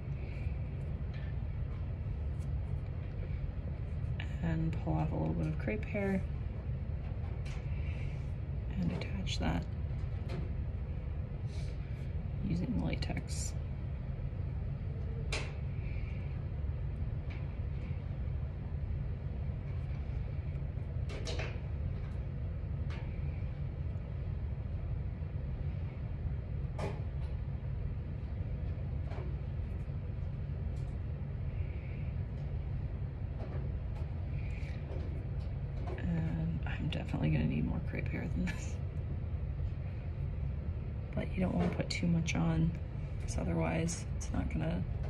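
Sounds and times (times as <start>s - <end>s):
low background hum: 0.0s - 45.0s.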